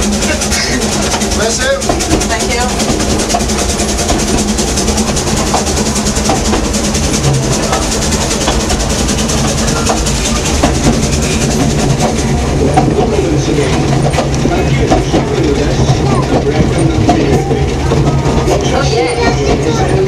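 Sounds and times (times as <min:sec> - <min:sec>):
clatter of train wheels: 0:00.0 - 0:20.0
train carriage rumble: 0:00.0 - 0:20.0.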